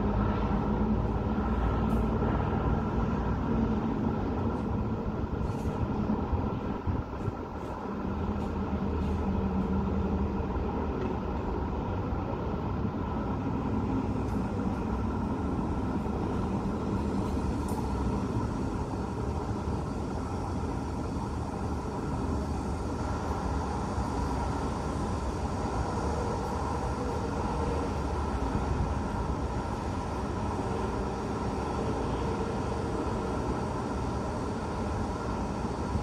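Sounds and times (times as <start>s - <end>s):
city traffic hum: 0.0s - 36.0s
heavy vehicle engine: 0.0s - 36.0s.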